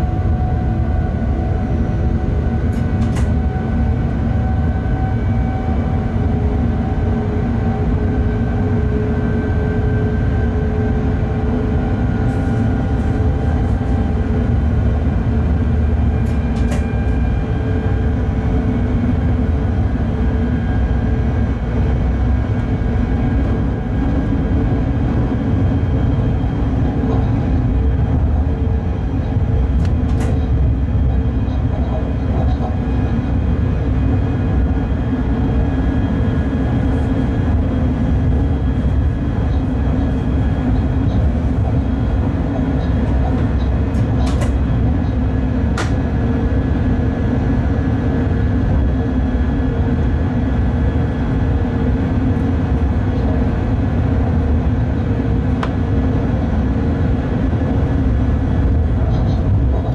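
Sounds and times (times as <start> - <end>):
train wheels on rail: 0.0 - 59.9.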